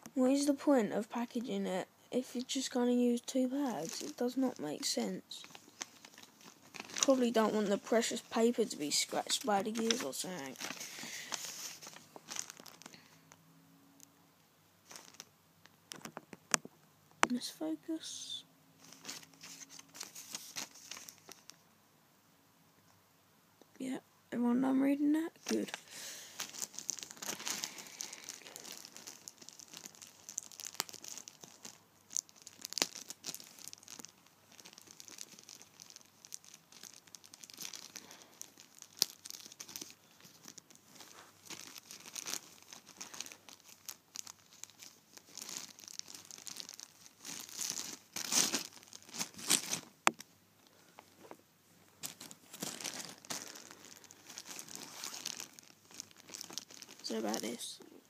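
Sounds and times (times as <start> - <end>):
plastic bag crinkling: 2.2 - 13.4, 14.8 - 15.3, 18.8 - 21.6, 25.2 - 57.9.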